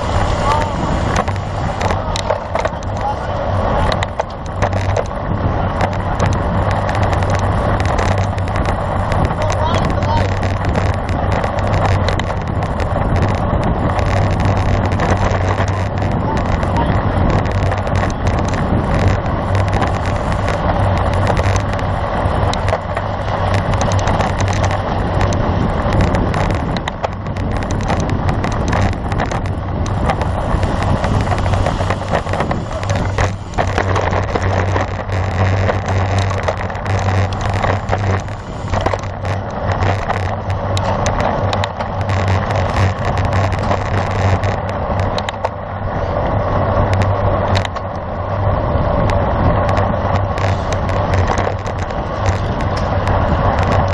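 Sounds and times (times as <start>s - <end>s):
bicycle tyres on road: 0.0s - 53.9s
constant low hum: 0.0s - 53.9s
wind rush: 0.0s - 53.9s.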